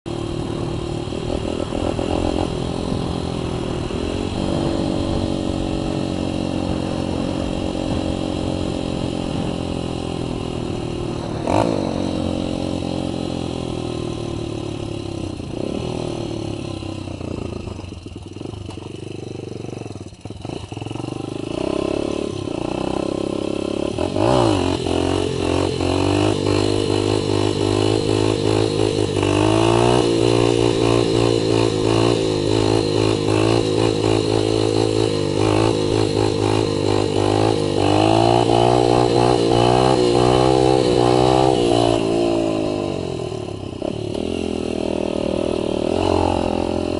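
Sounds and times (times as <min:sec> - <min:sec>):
dirt bike engine revving: 0:00.1 - 0:46.9.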